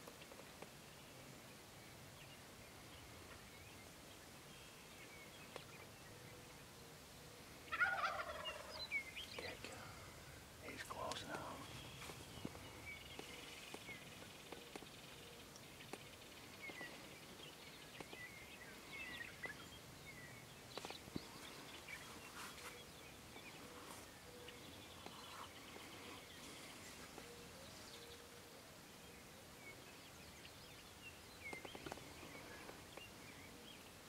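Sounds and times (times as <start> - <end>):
faint steady hum: 0.0 - 34.0
songbirds chirping: 0.0 - 34.0.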